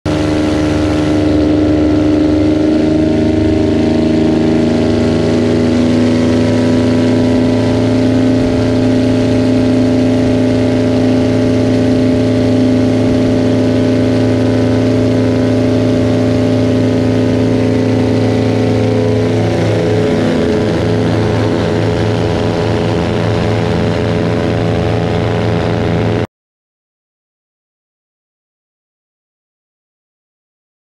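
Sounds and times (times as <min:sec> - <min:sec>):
propeller plane engines droning: 0:00.1 - 0:26.3.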